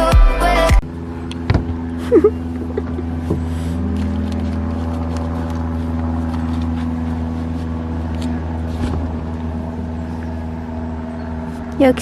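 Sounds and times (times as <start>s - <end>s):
car interior engine drone: 0.0s - 12.0s.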